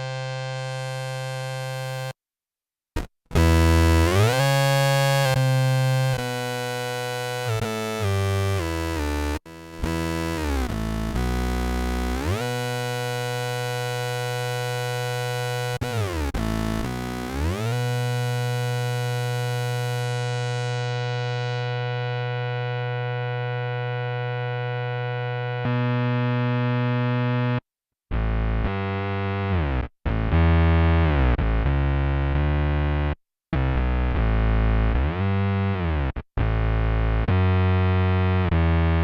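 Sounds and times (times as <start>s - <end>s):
synth bass guitar notes: 3.0s - 39.0s.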